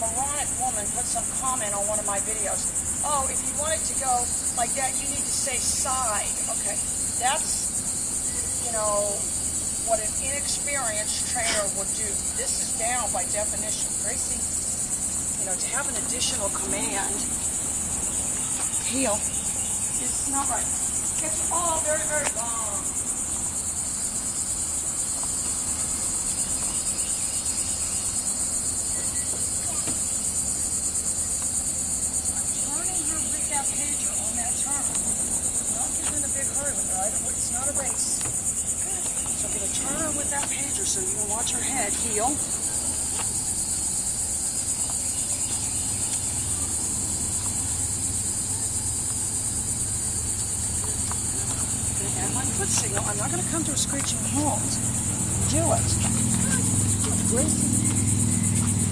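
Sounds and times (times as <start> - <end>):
crickets chirping: 0.0 - 58.9
insects trilling: 0.0 - 58.9.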